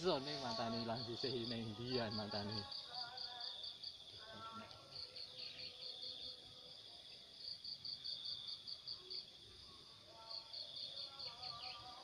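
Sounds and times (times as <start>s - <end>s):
insects chirping: 0.0s - 12.0s
steady high insect trill: 0.0s - 12.0s.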